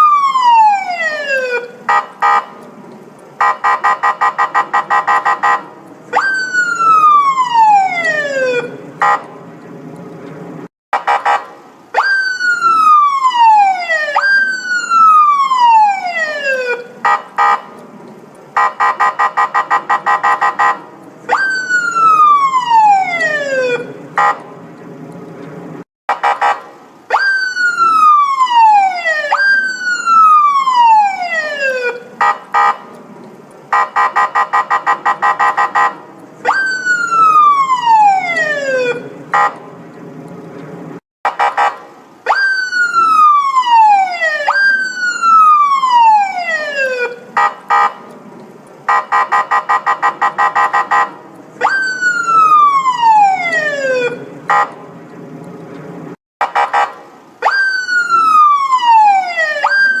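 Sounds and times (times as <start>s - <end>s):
electronic police siren wailing: 0.0s - 2.4s, 3.4s - 9.2s, 11.0s - 17.6s, 18.6s - 24.4s, 27.1s - 32.8s, 33.7s - 39.6s, 41.4s - 47.9s, 48.9s - 54.7s, 56.5s - 60.0s.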